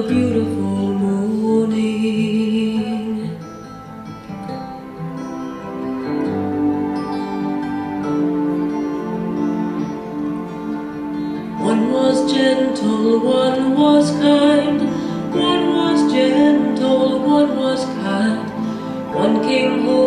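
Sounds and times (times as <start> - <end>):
soundtrack music with held notes: 3.4 - 20.0.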